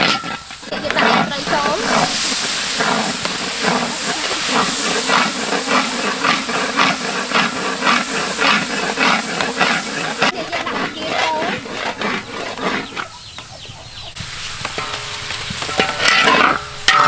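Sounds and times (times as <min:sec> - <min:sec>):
metal spatula scraping a wok: 0:00.0 - 0:17.0
oil sizzling in a wok: 0:00.0 - 0:17.0.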